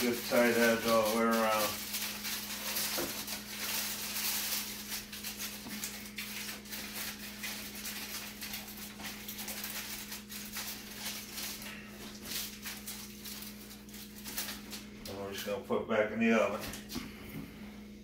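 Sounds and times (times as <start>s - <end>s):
aluminium foil crinkling: 0.0s - 15.6s.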